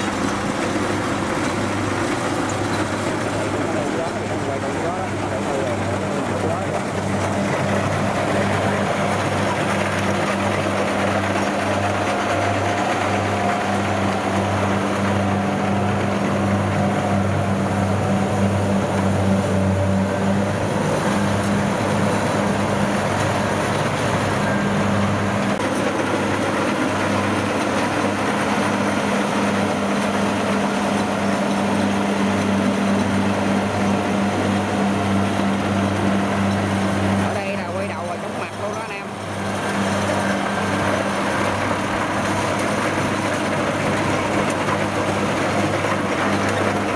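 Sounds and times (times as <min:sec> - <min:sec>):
combine harvester engine drone: 0:00.0 - 0:46.9.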